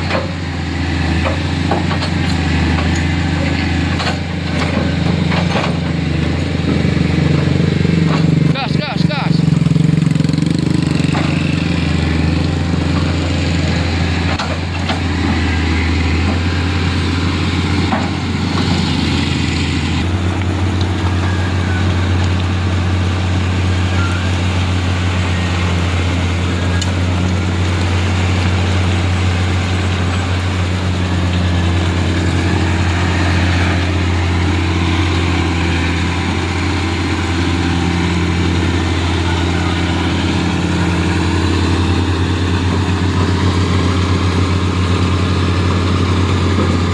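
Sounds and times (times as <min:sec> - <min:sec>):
heavy engine running: 0:00.0 - 0:46.9.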